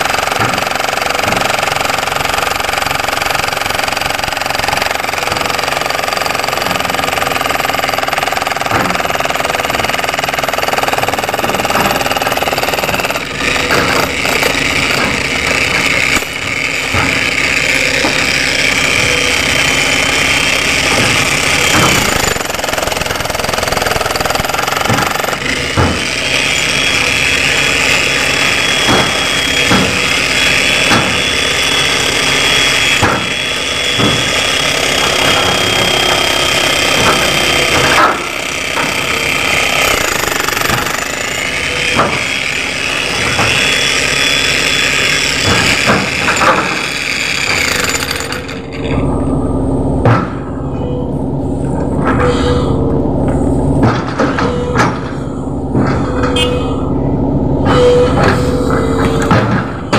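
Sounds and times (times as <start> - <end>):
jackhammer chipping concrete: 0.0 - 49.1.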